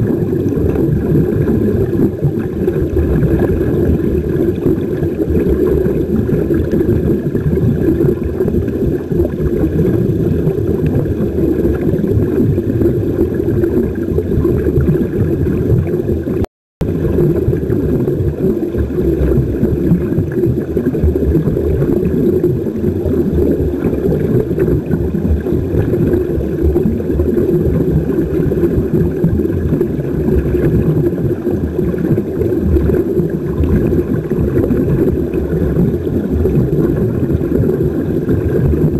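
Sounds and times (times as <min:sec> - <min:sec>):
air bubbles streaming underwater: 0:00.0 - 0:38.9
muffled underwater rumble: 0:00.0 - 0:38.9.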